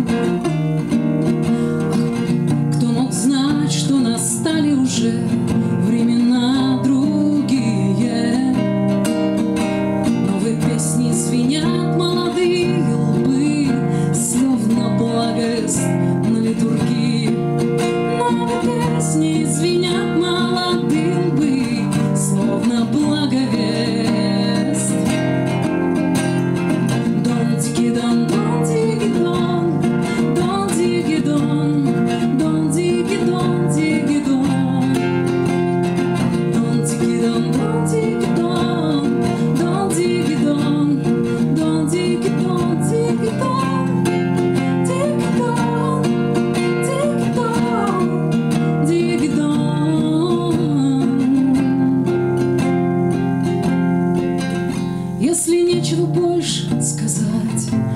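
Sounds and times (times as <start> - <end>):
acoustic guitar: 0.0 - 57.9
woman singing: 0.0 - 57.9.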